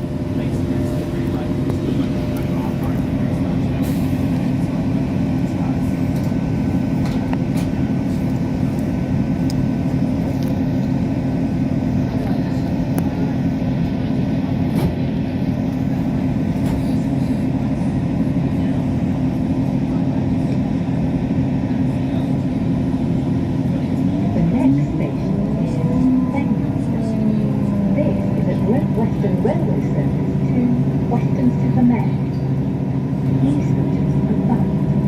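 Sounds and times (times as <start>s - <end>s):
constant low hum: 0.0s - 35.0s
train rumble inside carriage: 0.0s - 35.0s.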